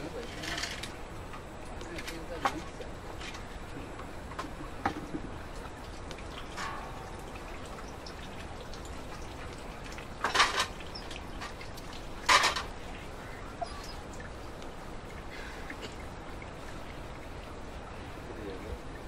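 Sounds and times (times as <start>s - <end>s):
water pouring and splashing: 0.0s - 19.0s.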